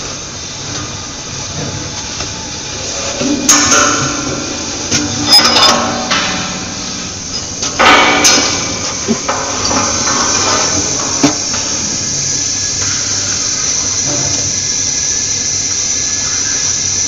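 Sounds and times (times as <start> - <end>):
welding arc crackling and sizzling: 0.0 - 17.0.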